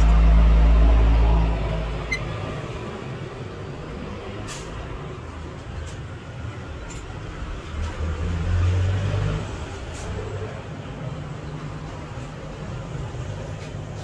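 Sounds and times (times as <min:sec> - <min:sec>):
steady traffic noise: 0:00.0 - 0:14.0
vehicle engine rumble: 0:00.0 - 0:14.0.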